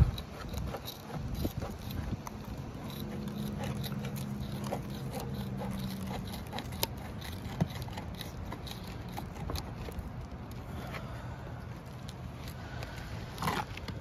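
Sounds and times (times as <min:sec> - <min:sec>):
shingle being cut with snips: 0:00.0 - 0:11.2, 0:12.0 - 0:14.0.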